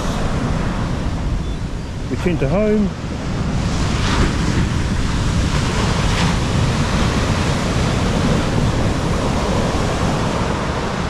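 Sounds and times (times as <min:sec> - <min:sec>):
ocean surf breaking on beach: 0:00.0 - 0:11.0
wind buffeting microphone: 0:00.0 - 0:11.0.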